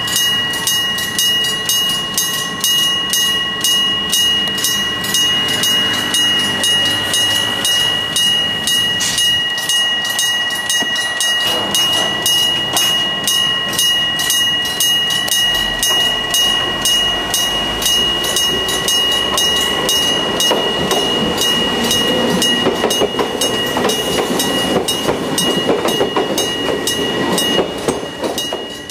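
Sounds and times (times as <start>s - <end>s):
level-crossing warning bell: 0.0s - 28.9s
train rolling past: 0.0s - 28.9s.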